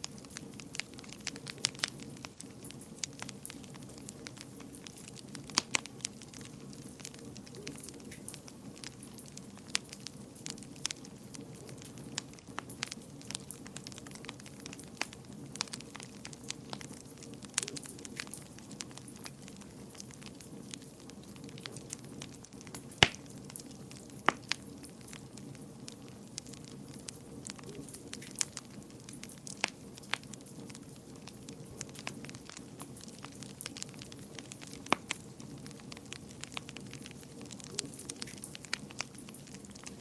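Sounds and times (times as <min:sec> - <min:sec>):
low steady rush of fire: 0:00.0 - 0:40.0
wood fire crackling and popping: 0:00.0 - 0:40.0.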